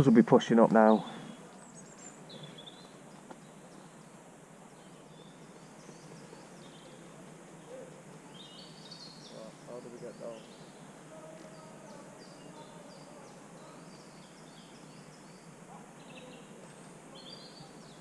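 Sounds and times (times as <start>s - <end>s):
bird chirping: 0.0s - 18.0s
faint outdoor background noise: 0.0s - 18.0s.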